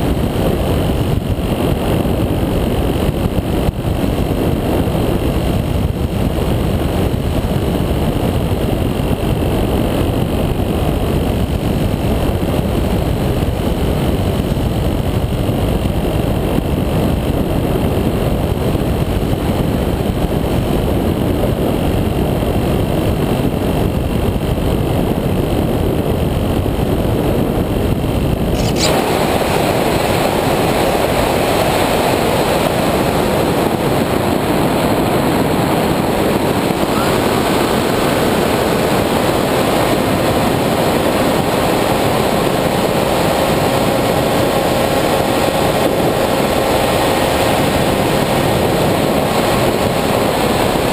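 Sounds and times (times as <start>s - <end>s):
wind buffeting on microphone: 0.0s - 50.9s.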